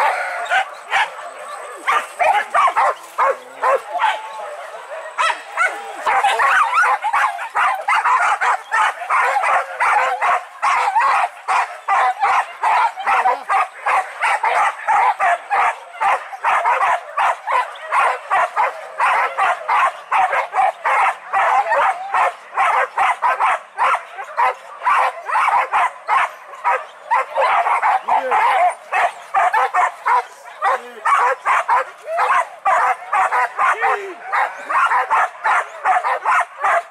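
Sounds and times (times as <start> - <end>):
dogs barking and yelping: 0.0 - 36.9.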